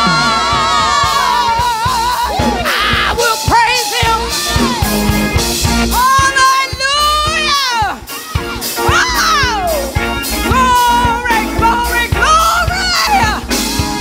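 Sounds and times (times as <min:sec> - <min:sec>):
gospel singing with vibrato: 0:00.0 - 0:14.0
live band drums and bass: 0:00.0 - 0:14.0.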